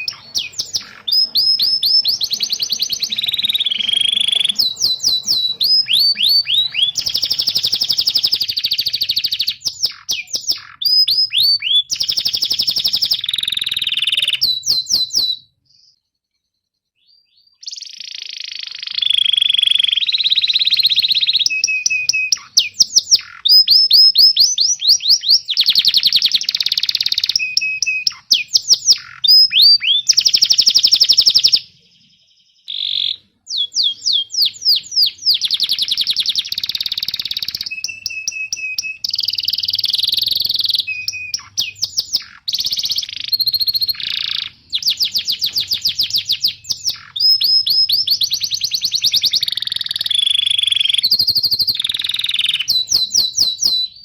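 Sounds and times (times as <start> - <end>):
canary singing trills and chirps: 0.0 - 16.1, 17.0 - 54.0.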